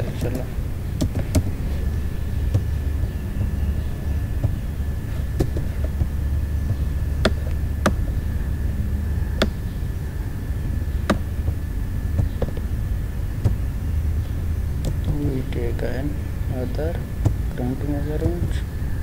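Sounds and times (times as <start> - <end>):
faint high whine: 0.0 - 19.0
steady low hum: 0.0 - 19.0.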